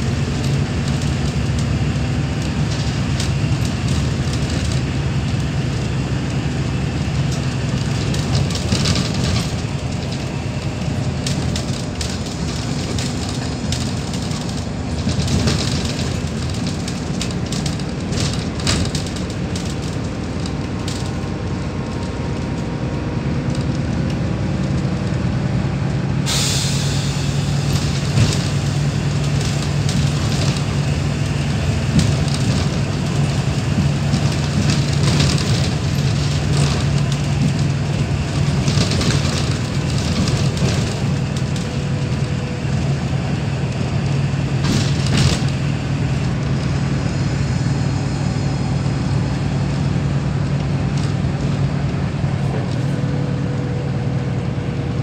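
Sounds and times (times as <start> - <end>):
bus engine droning: 0.0 - 55.0
road noise: 0.0 - 55.0.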